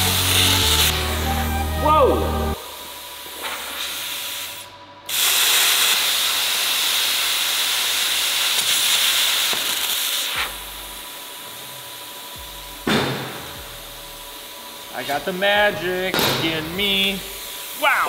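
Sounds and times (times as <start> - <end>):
plasma cutter hissing: 0.0 - 18.0.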